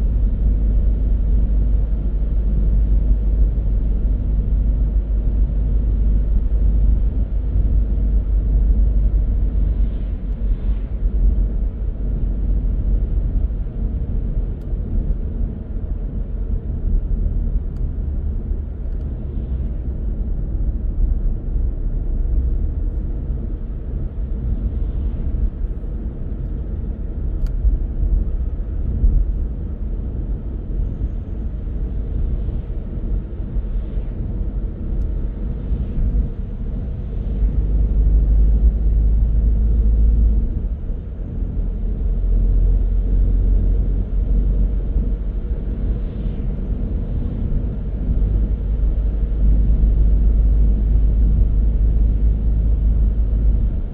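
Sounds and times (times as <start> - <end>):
car tyres and engine rumble: 0.0 - 53.9.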